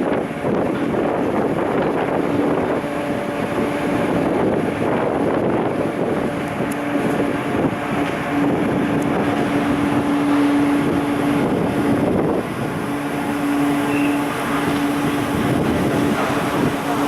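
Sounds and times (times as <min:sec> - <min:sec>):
ferry engine drone: 0:00.0 - 0:17.0
wind buffeting microphone: 0:00.0 - 0:17.0.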